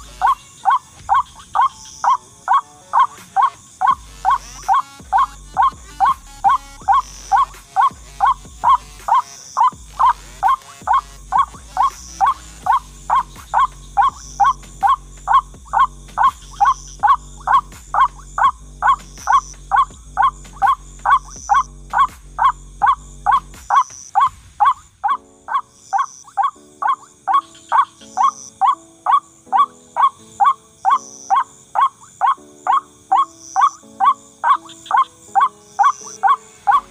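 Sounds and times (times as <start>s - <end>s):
background music: 0.0s - 36.9s
waterhen calling: 0.0s - 36.9s.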